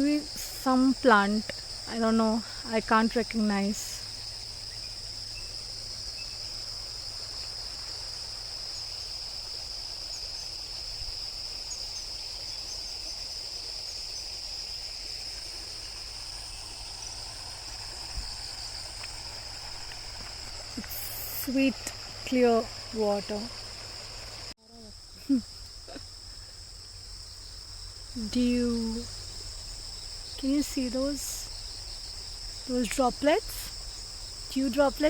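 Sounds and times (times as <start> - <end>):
insects chirring drone: 0.0 - 35.0.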